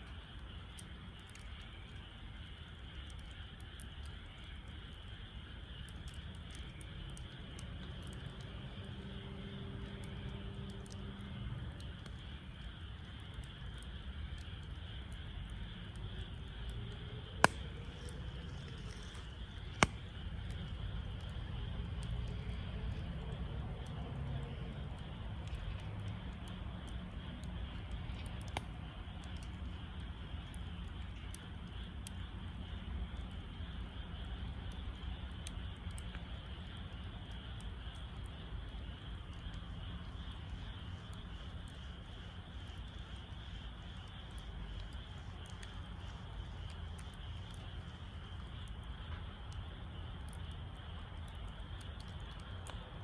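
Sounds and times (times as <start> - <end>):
burning wood popping: 0.0 - 53.0
wood fire rumbling and crackling: 0.0 - 53.0.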